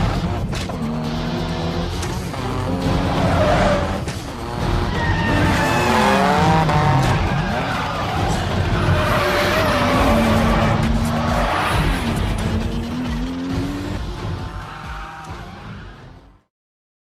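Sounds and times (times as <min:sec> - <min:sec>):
car engine revving: 0:00.0 - 0:15.7.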